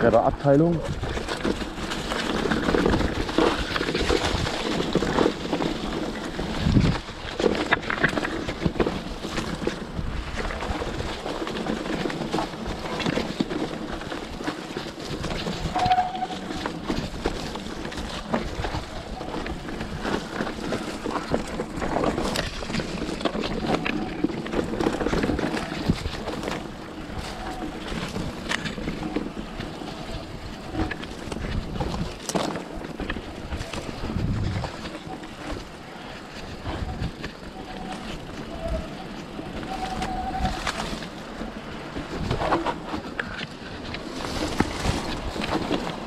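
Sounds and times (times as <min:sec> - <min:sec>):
bike clattering over bumps: 0:00.0 - 0:46.0
tyres crunching over leaves: 0:00.0 - 0:46.0
wind noise on microphone: 0:00.0 - 0:46.0.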